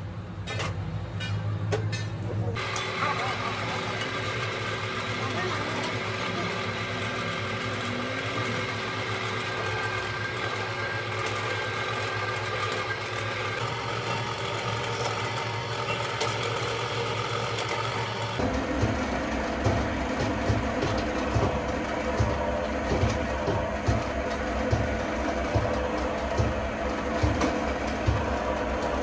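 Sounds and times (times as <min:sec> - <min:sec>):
machine motor hum and whine: 0:02.6 - 0:29.0.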